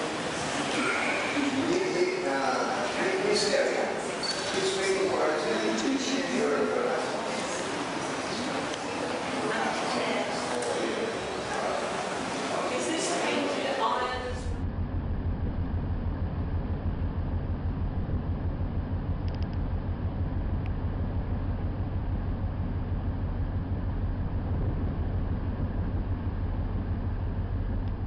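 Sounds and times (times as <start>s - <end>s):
steady low rumble with hiss: 0.0s - 28.0s.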